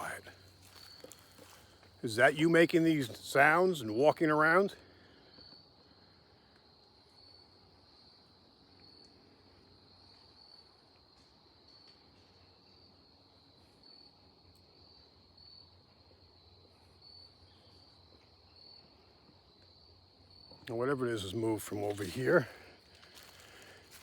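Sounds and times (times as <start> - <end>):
faint insects chirring: 0.0 - 24.0.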